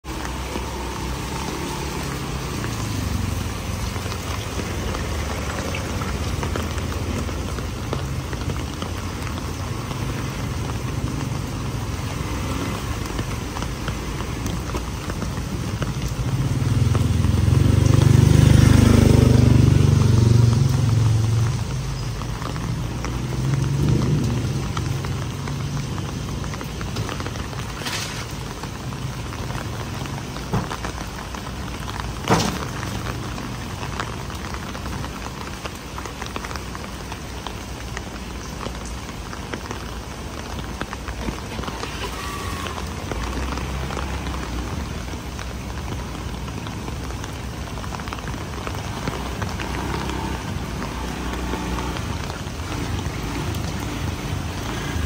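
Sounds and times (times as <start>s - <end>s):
rain on concrete: 0.0s - 55.0s.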